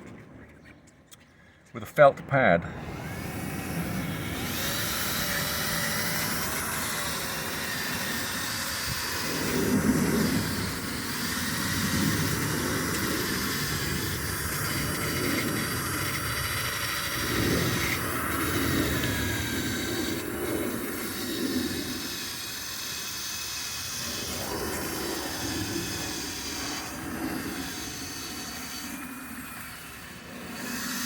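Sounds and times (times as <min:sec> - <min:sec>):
electric drill motor whine: 0:02.6 - 0:31.0.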